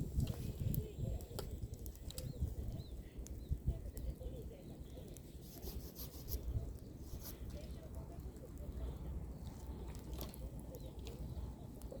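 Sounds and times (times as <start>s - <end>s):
bonfire crackling and popping: 0.0s - 12.0s
low rumble of fire: 0.0s - 12.0s.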